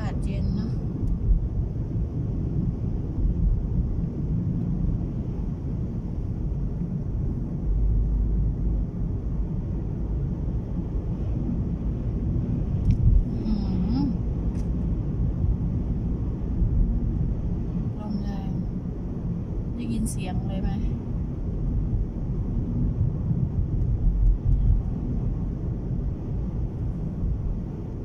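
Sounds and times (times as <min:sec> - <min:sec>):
gusting wind buffeting car: 0:00.0 - 0:28.0
road noise: 0:00.0 - 0:28.0.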